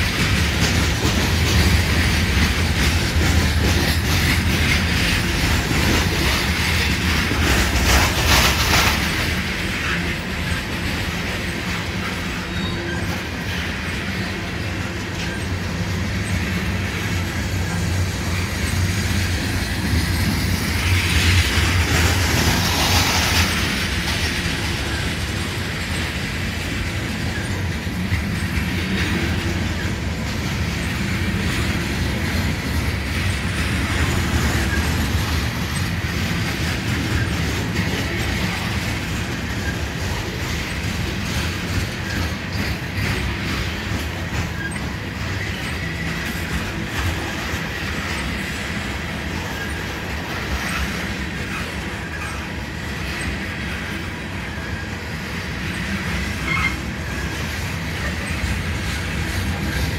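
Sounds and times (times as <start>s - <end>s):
steel wheels rumbling on rails: 0.0s - 59.9s
wheels clattering over track: 0.0s - 59.9s.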